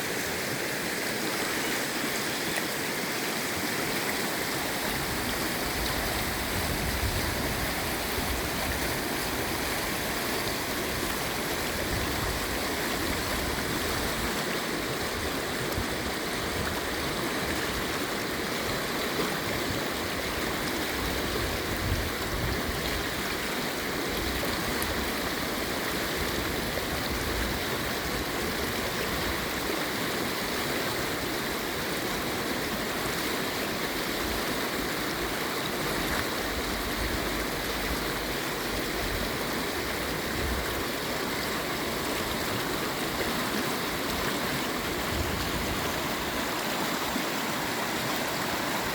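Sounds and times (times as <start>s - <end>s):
water rushing over rocks: 0.0s - 48.9s.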